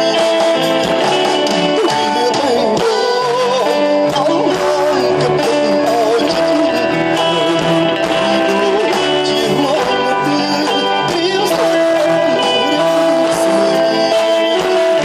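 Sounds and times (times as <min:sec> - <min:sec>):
pop band music: 0:00.0 - 0:15.0.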